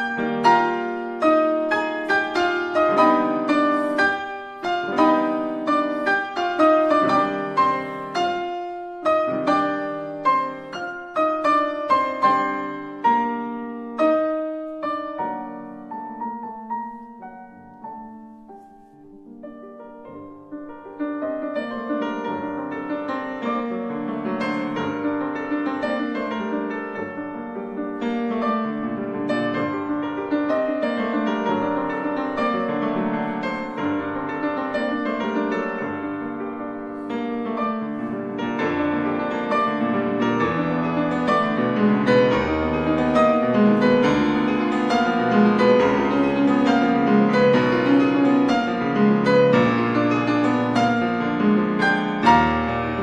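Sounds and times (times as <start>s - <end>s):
solo grand piano: 0.0s - 53.0s.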